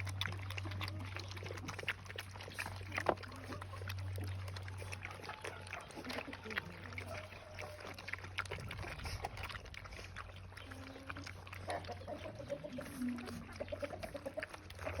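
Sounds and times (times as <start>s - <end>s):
puppies eating noisily: 0.0s - 15.0s.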